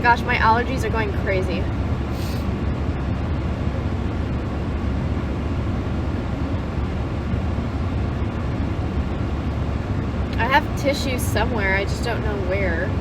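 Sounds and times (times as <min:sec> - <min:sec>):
air conditioning rumble and hiss: 0:00.0 - 0:13.0.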